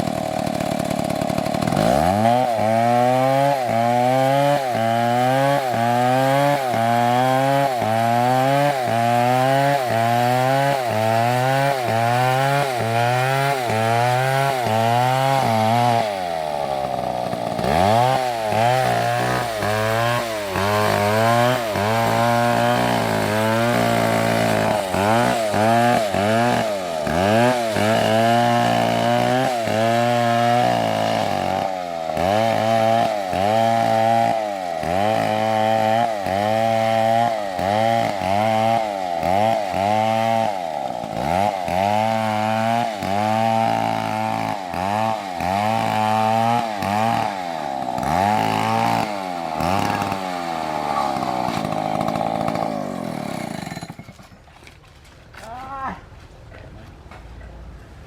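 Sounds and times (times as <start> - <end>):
chainsaw cutting wood: 0.0 - 54.8.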